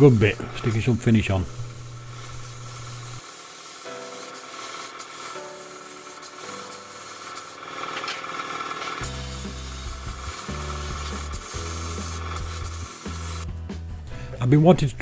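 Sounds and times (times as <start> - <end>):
spray gun hissing: 0.0 - 13.5.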